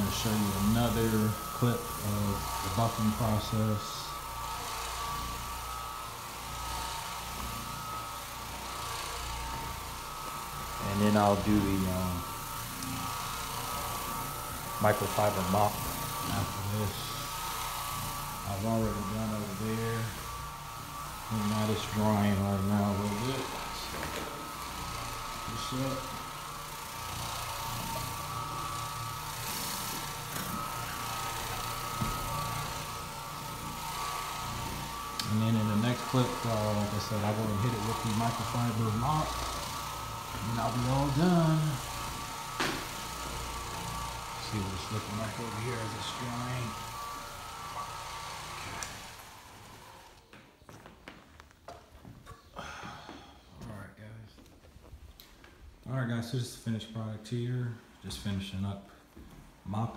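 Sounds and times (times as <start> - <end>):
floor machine motor humming: 0.0 - 59.9.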